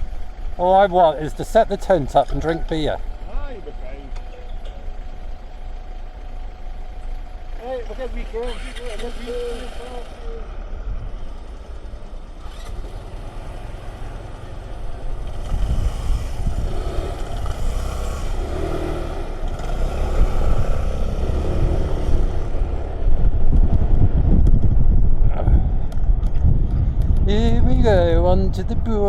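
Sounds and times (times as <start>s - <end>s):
motor vehicle engines running: 0.0s - 29.0s.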